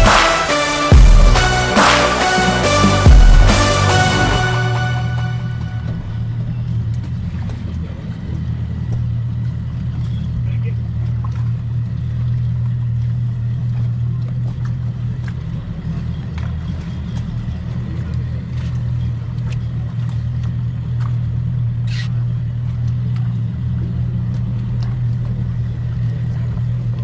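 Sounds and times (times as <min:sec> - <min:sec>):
outboard boat motors idling: 0:00.0 - 0:27.0.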